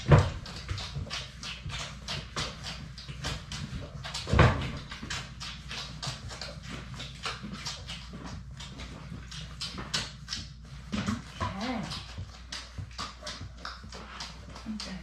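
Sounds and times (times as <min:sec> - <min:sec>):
puppies suckling: 0:00.0 - 0:15.0.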